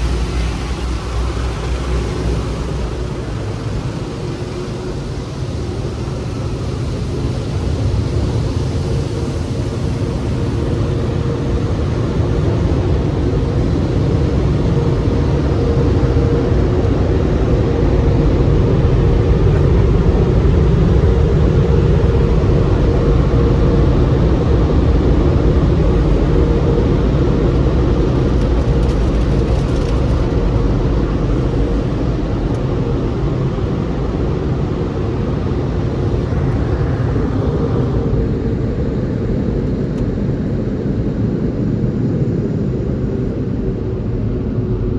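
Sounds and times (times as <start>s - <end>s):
car wash machinery rumbling: 0.0s - 44.9s
constant hum: 0.0s - 44.9s.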